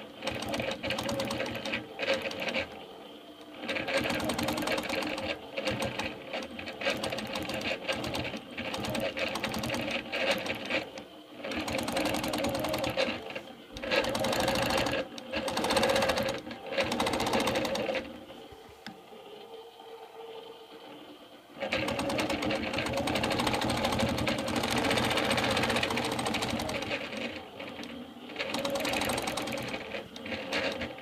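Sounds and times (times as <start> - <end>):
quilting machine stitching: 0.0 - 18.4, 20.8 - 31.0.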